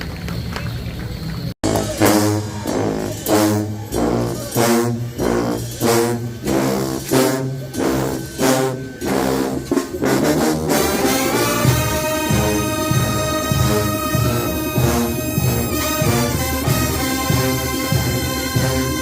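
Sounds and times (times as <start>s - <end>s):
brass band playing: 1.6s - 19.0s
low tuba line: 1.6s - 19.0s.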